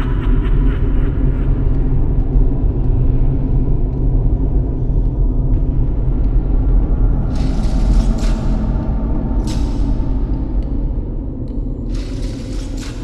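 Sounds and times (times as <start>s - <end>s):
deep rumbling drone: 0.0s - 13.0s.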